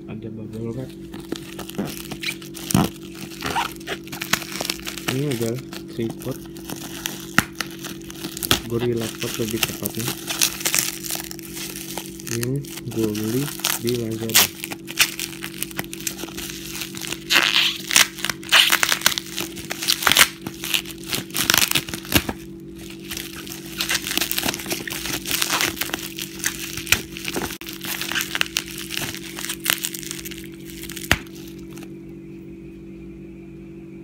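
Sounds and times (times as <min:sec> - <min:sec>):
steady low hum: 0:00.0 - 0:34.0
bubble wrap crackling: 0:00.8 - 0:31.9.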